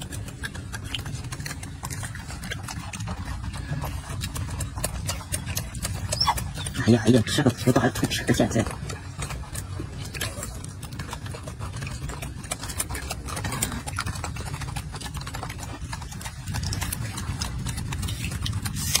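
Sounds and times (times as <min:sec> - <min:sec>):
monkey chewing wetly: 0:00.0 - 0:19.0
steady low rumble: 0:00.0 - 0:19.0.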